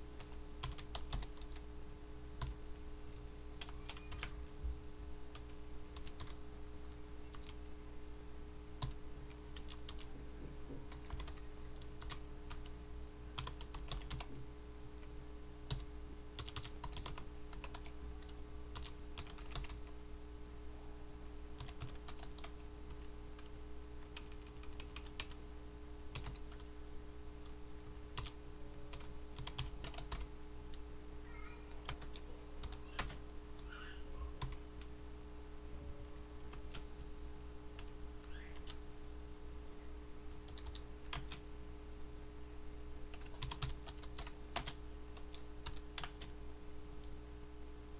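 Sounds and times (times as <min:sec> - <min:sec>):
low electrical hum: 0:00.0 - 0:47.9.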